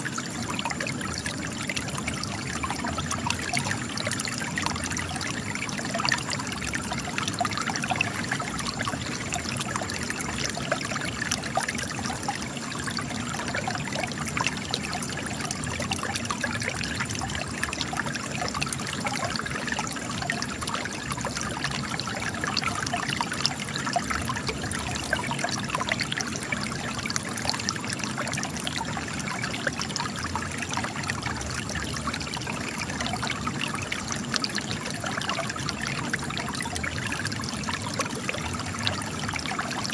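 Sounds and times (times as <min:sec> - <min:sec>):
spring water trickling and splashing: 0:00.0 - 0:39.9.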